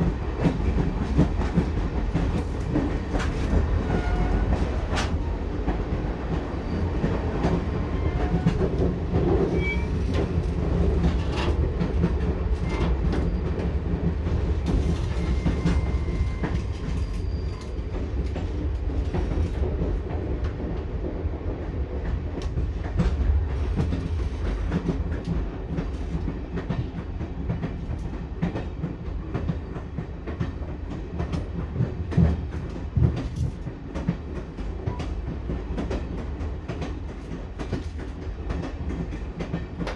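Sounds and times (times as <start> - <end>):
train carriage rumbling: 0.0 - 39.9.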